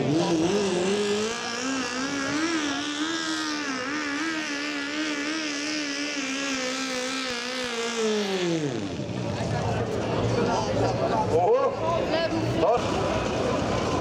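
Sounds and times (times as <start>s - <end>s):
tractor engine at high revs: 0.0s - 14.0s.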